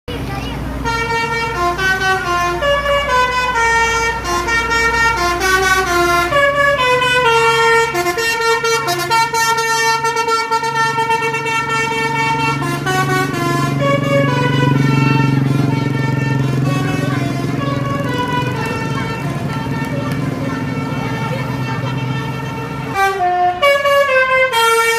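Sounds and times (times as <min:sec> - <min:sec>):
bus engine running: 0:00.1 - 0:24.9
multi-tone air horn melody: 0:00.8 - 0:24.9.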